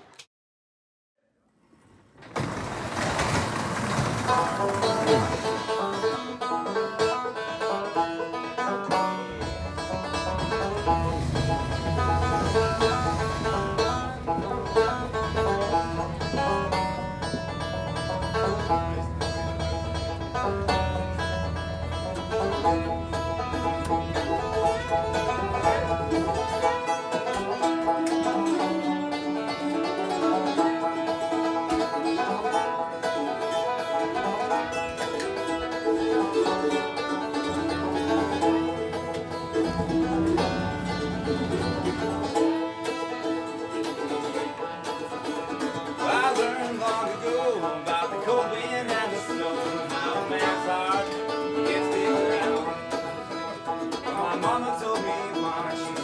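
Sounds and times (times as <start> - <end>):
banjo picking: 3.0 - 56.0
guitar: 3.8 - 56.0.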